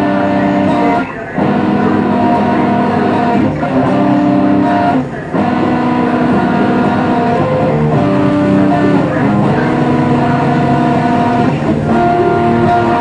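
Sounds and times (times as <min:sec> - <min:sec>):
background music with held chords: 0:00.0 - 0:13.0.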